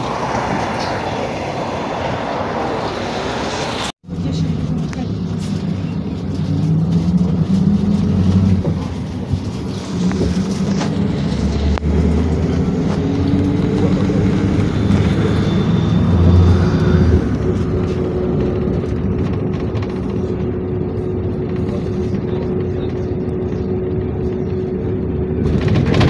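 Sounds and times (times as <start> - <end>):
bus engine drone: 0.0 - 26.0
road rumble: 0.0 - 26.0.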